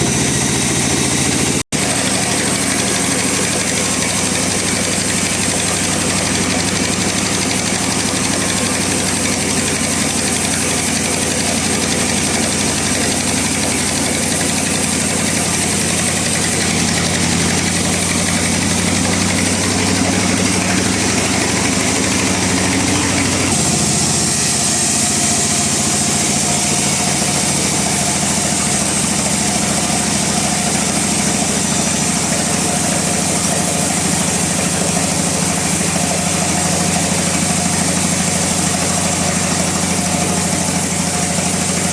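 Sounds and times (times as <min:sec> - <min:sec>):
bandsaw mill drone: 0:00.0 - 0:41.9.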